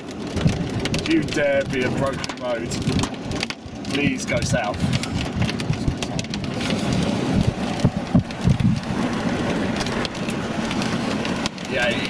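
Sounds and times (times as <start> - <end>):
hailstones knocking on car: 0.0 - 12.0
rain hissing on car: 0.0 - 12.0.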